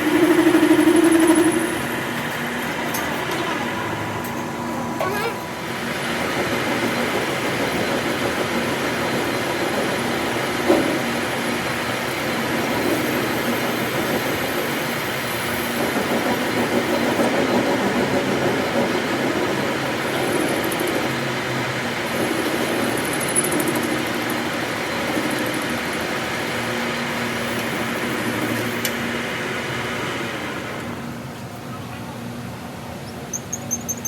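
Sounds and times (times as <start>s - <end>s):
workshop machinery running: 0.0s - 34.0s.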